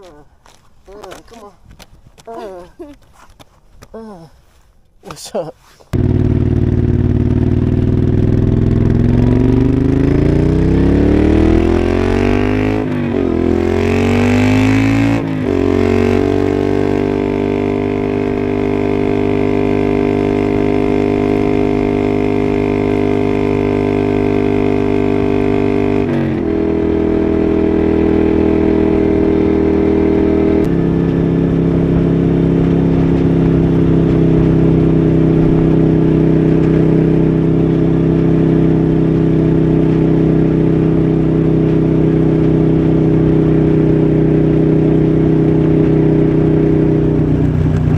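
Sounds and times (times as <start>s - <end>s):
motorcycle engine pulling away: 6.0s - 47.9s.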